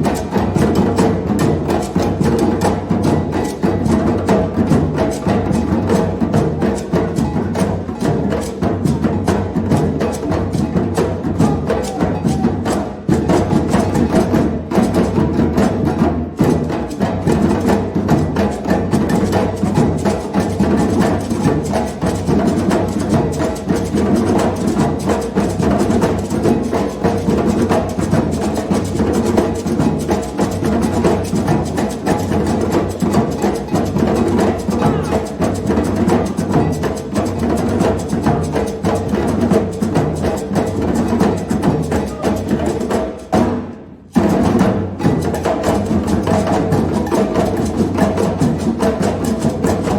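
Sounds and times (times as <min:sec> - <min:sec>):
drums playing fast rhythm: 0:00.0 - 0:49.9.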